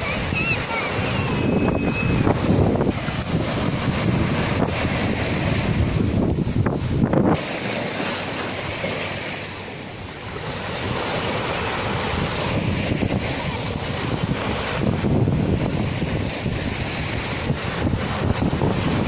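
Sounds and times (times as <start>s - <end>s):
wind buffeting microphone: 0.0s - 7.6s, 10.2s - 19.0s
sea waves breaking: 0.0s - 19.0s.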